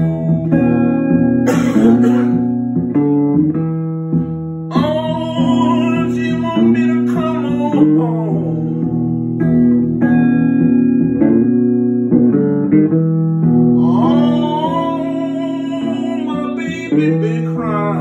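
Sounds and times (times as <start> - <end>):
blues guitar playing: 0.0 - 18.0.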